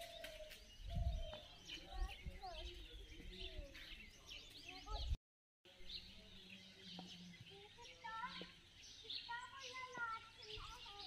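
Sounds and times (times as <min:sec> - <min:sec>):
faint outdoor background noise: 0:00.0 - 0:11.0
small birds chirping: 0:00.0 - 0:11.0.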